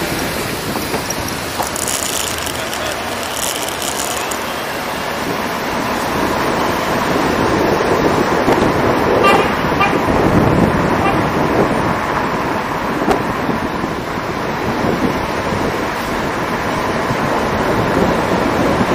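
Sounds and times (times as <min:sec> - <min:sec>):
car driving road and engine noise: 0:00.0 - 0:18.9.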